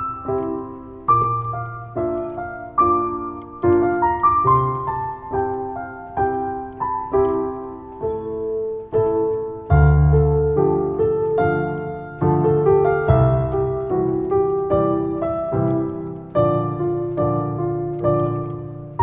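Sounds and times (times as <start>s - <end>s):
slow gentle piano piece: 0.0s - 19.0s.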